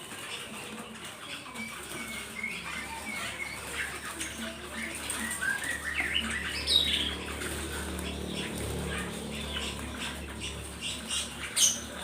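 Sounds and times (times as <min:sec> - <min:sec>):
birds fluttering in cage: 0:00.0 - 0:12.0
songbirds chirping: 0:00.0 - 0:12.0.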